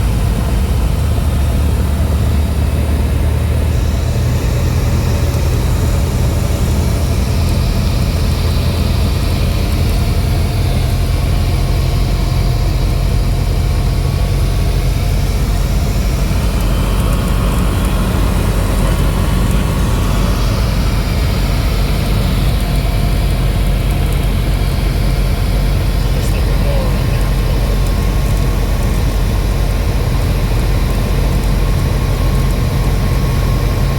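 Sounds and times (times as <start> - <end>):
airplane engine and propeller droning: 0.0 - 33.9.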